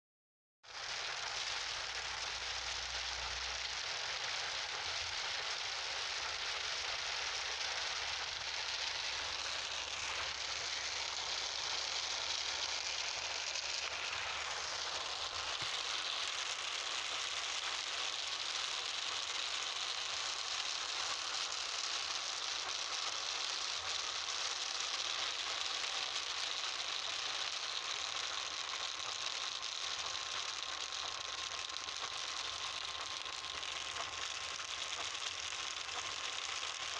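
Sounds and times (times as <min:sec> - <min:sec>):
steady rain falling: 0:00.7 - 0:36.9.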